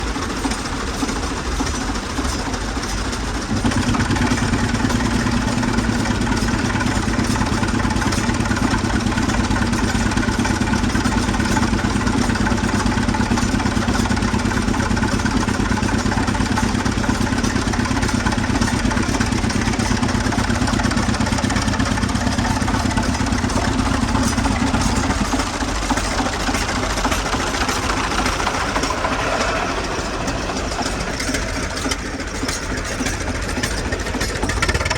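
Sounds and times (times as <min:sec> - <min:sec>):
air compressor engine running: 0:00.0 - 0:34.9.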